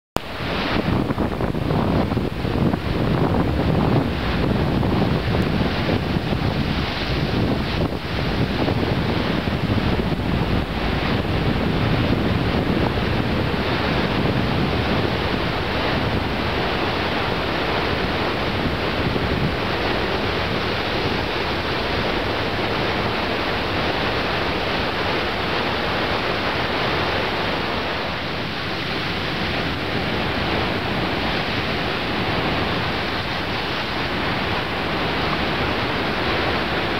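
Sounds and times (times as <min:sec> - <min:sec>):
ocean surf breaking on shore: 0:00.2 - 0:36.9
wind buffeting microphone: 0:00.2 - 0:36.9.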